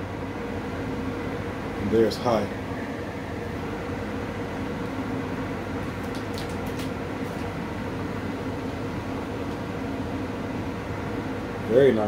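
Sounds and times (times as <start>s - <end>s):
duct fan rushing air: 0.0s - 12.0s.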